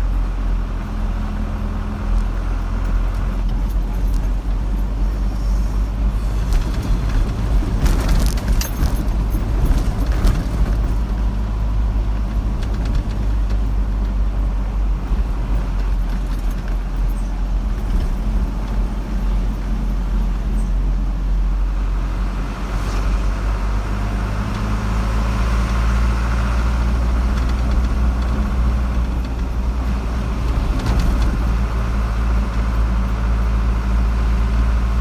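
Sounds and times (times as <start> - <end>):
car road noise rumble: 0.0 - 35.0.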